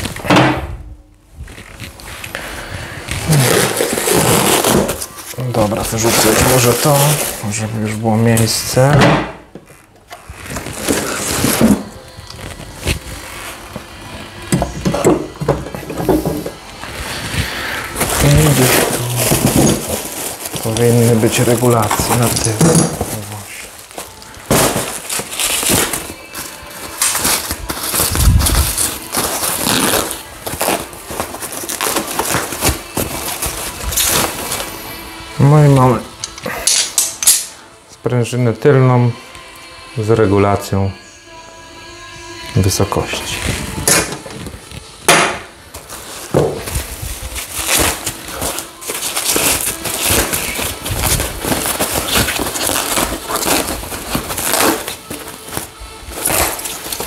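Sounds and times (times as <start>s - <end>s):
plastic wrap crinkling: 0.0s - 0.3s, 1.3s - 8.9s, 9.6s - 37.5s, 42.6s - 57.0s.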